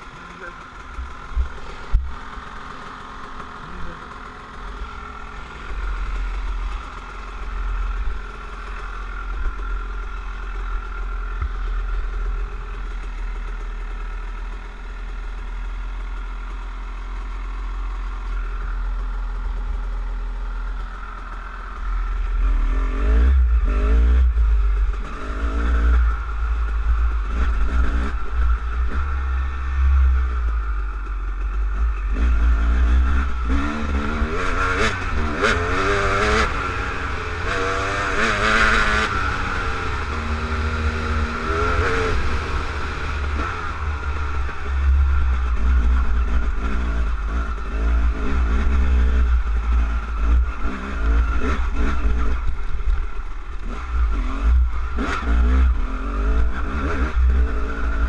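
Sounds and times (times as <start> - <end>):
dirt bike engine revving: 0.0 - 14.6, 17.9 - 58.0.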